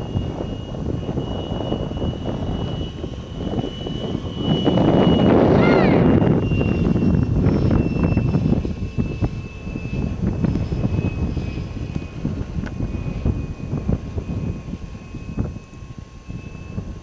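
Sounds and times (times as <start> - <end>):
model jet fan whine: 0.0 - 17.0
wind noise on microphone: 0.0 - 17.0.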